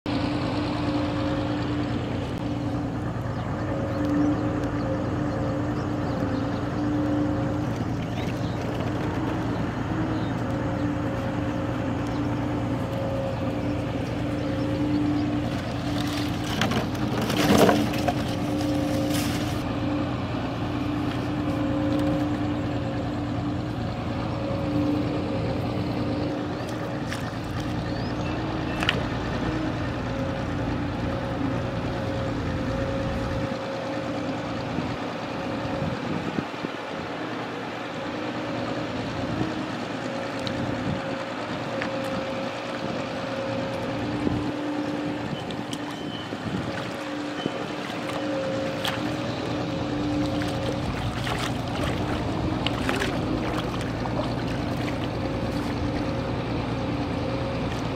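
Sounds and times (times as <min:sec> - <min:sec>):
low machine hum: 0:00.1 - 0:57.9.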